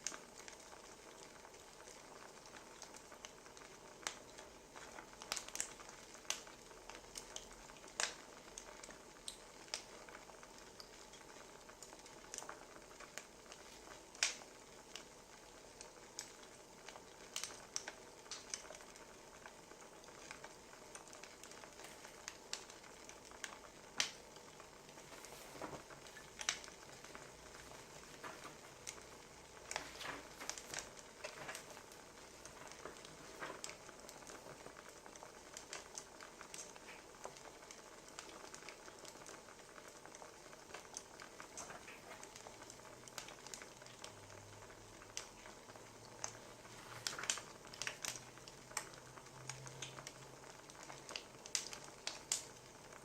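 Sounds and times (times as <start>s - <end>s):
faint hiss: 0.0s - 53.0s
wood fire crackling: 0.0s - 53.0s.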